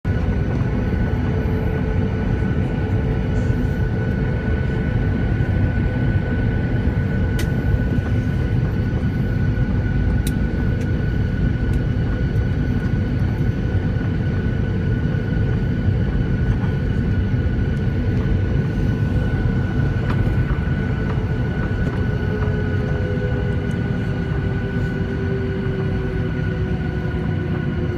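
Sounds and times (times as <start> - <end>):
jet engines rumbling and whining: 0.0 - 27.9.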